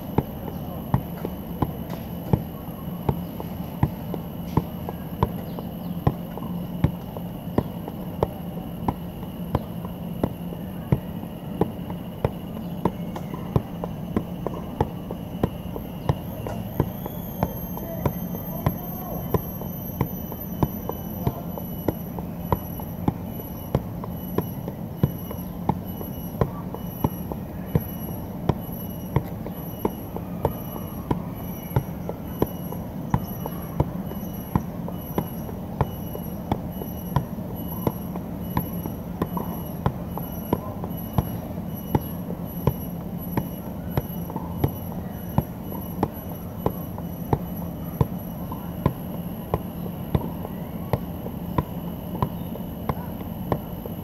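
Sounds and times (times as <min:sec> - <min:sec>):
foot thudding on ball: 0:00.0 - 0:54.0.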